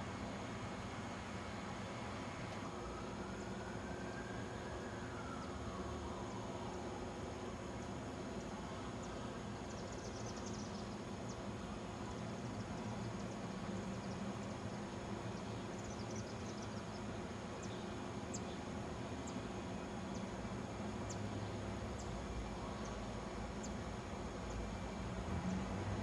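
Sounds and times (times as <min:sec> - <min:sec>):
distant city traffic hum: 0:00.0 - 0:26.0.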